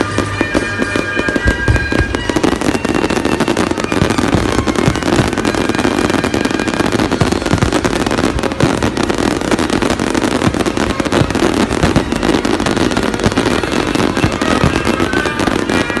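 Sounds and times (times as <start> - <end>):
fireworks bursting and crackling: 0.0 - 16.0
heavy fireworks bangs: 0.0 - 16.0.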